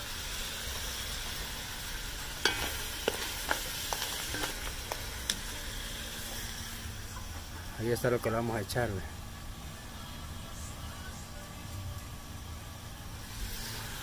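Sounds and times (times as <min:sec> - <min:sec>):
crabs sizzling in a pot: 0:00.0 - 0:14.0.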